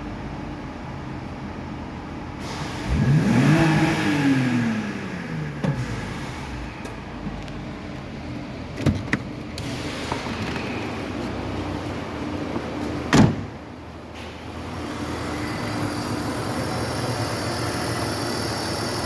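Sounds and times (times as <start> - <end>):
car engine idling and revving: 0.0 - 13.1, 13.7 - 19.0.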